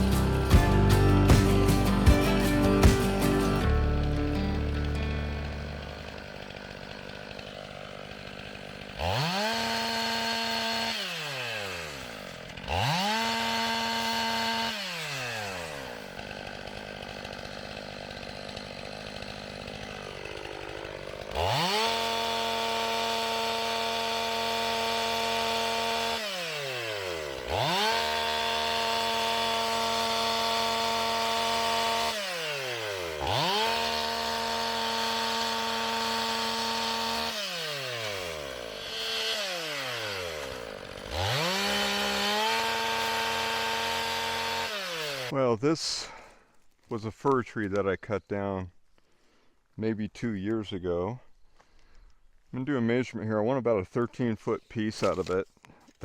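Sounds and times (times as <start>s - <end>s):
chainsaw revving and idling: 0.0s - 46.6s.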